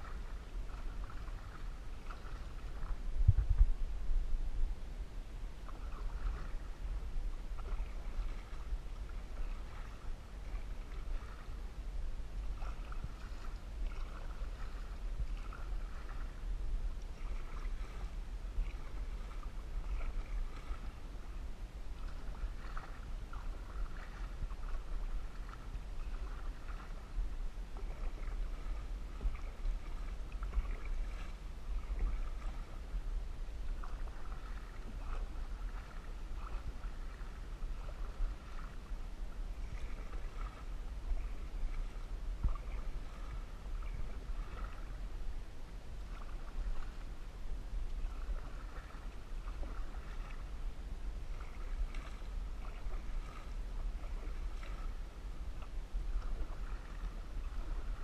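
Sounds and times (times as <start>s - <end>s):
paddle splashing in water: 0.0s - 4.7s, 5.4s - 58.0s
low rumble: 0.0s - 48.5s.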